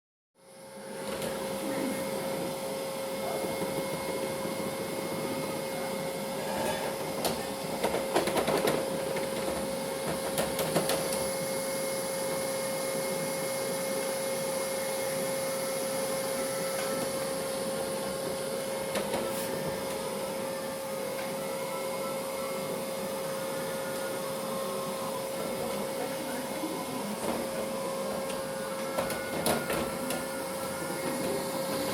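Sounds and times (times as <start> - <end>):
robot vacuum cleaner whirring: 0.4 - 31.9.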